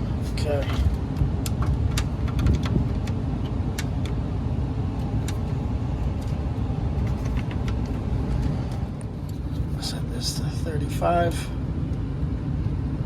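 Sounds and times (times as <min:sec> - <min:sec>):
gas furnace rumble: 0:00.0 - 0:13.0.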